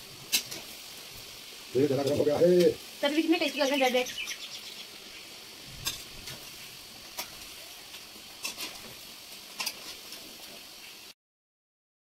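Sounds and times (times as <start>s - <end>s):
deep-frying in hot oil: 0.0s - 11.2s.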